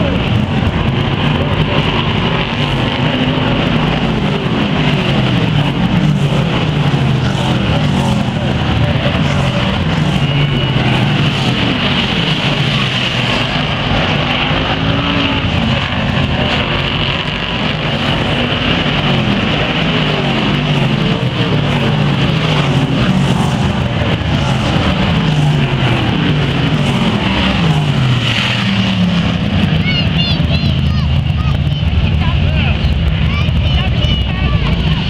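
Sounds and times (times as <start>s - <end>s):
race car engines passing: 0.0s - 35.0s.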